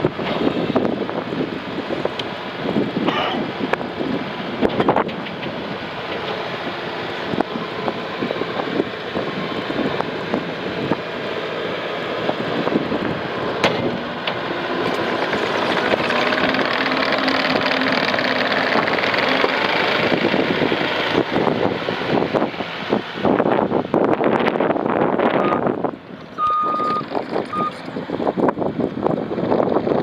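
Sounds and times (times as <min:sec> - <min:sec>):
diesel engine running: 0:05.6 - 0:30.0.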